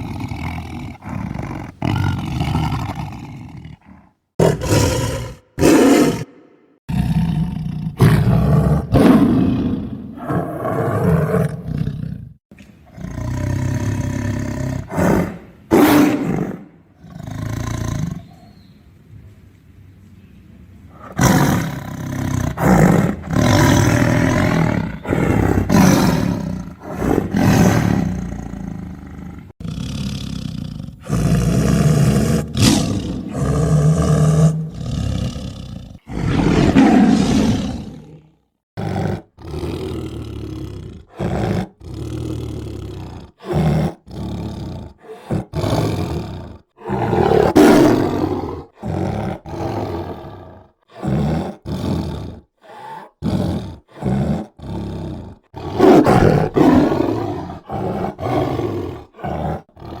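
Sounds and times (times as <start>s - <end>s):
tiger roaring and growling: 0.0s - 18.5s, 20.9s - 60.0s.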